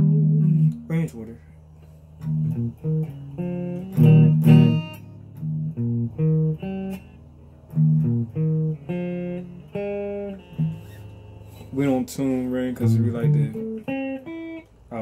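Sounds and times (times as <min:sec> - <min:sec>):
electric guitar picked notes: 0:00.0 - 0:15.0
strummed guitar chords: 0:00.0 - 0:15.0.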